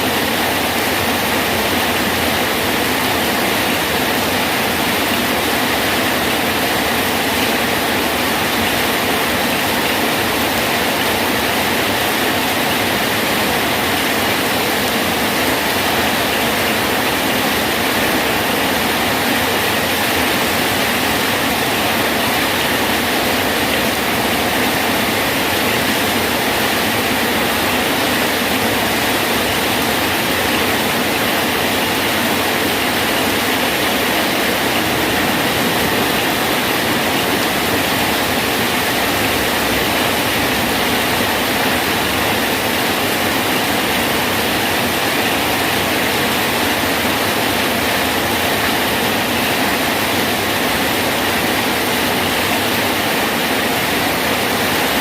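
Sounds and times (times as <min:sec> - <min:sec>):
rain falling on a bridge: 0:00.0 - 0:55.0.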